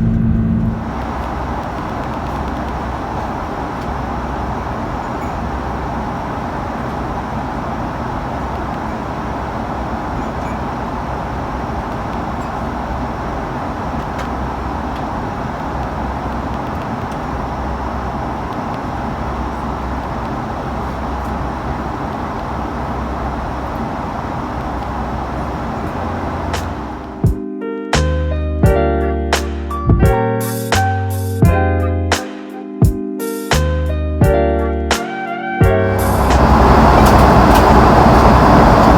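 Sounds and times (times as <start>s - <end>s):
airliner cabin noise: 0.0s - 27.4s, 34.2s - 38.9s.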